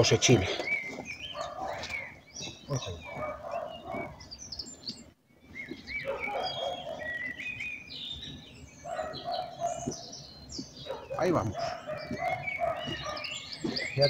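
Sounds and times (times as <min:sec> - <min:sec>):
birds singing and chirping: 0:00.0 - 0:14.0.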